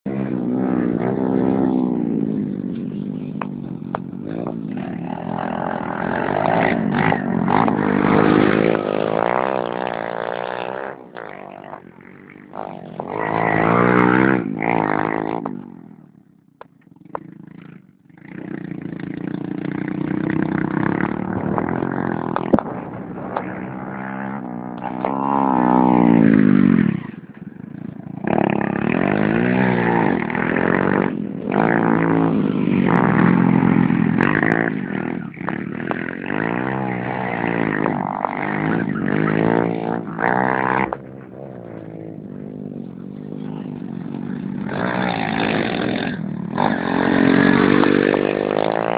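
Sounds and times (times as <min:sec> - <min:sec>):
racing motorcycle engines revving: 0:00.0 - 0:48.9.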